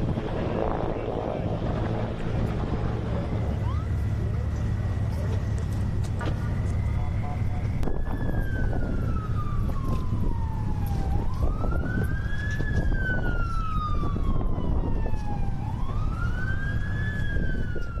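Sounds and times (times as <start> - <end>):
emergency siren wailing: 0.0 - 18.0
low rumble of street noise: 0.0 - 18.0.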